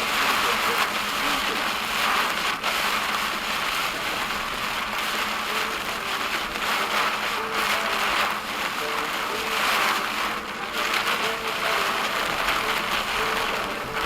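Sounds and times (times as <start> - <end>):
heavy rain on a car roof: 0.0 - 14.0.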